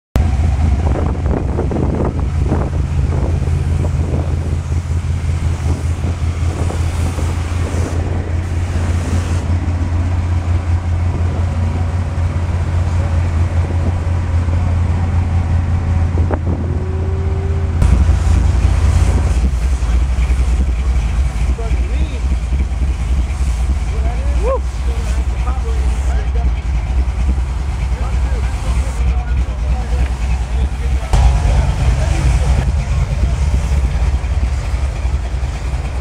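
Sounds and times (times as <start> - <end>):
car engine idling: 0.2 - 36.0.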